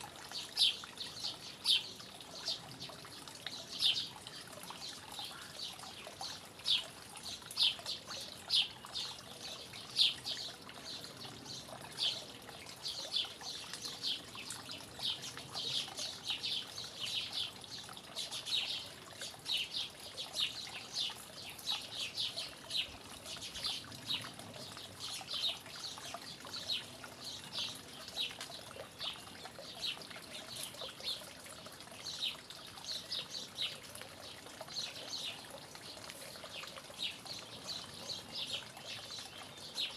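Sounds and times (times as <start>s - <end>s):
faint trickle of water: 0.0s - 39.9s
small birds chirping: 0.0s - 39.9s.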